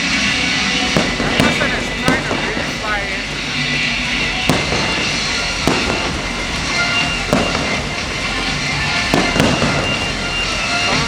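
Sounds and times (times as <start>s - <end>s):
fireworks bangs: 0.0s - 11.0s
music playing: 0.0s - 11.0s.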